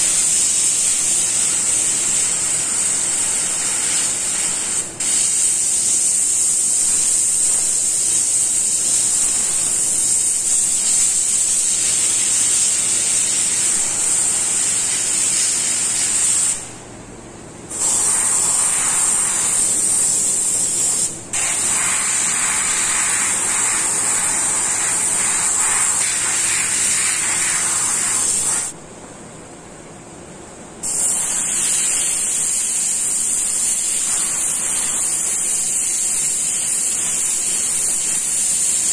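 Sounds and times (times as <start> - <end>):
airbrush hissing: 0.0 - 16.7, 17.7 - 28.8, 30.8 - 38.9.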